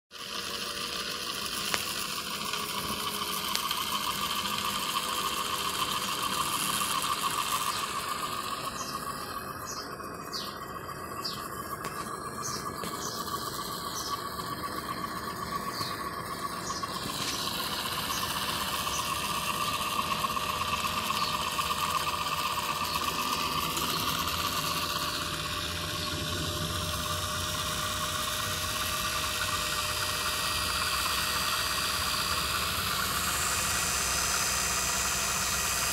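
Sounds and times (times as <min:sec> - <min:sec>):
film projector clattering: 0:00.1 - 0:35.9
projector motor hum: 0:00.2 - 0:35.9.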